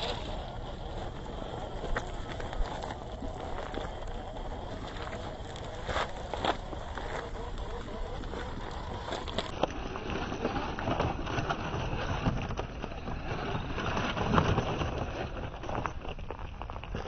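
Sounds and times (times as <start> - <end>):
toy car rumbling over rough ground: 0.0 - 17.0.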